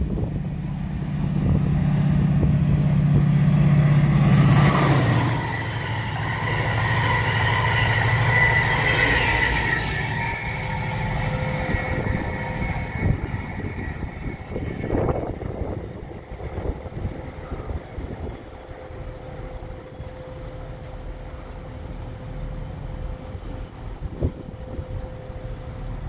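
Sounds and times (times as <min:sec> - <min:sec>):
diesel engine humming: 0:00.0 - 0:26.0
high steady whines: 0:00.0 - 0:26.0
train passing with wheel noise: 0:00.0 - 0:26.0.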